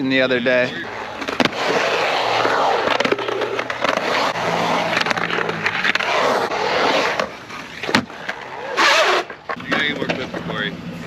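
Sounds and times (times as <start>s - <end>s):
skateboard wheels rolling on concrete: 0.0s - 11.0s
skateboard clack: 0.8s - 10.7s.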